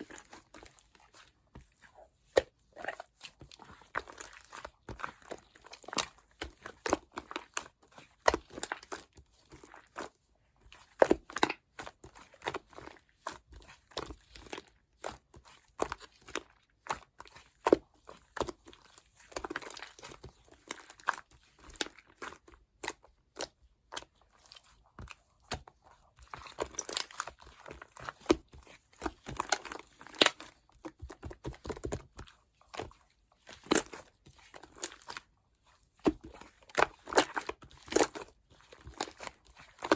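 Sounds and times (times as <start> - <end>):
slime crackling and squishing: 0.0 - 39.9.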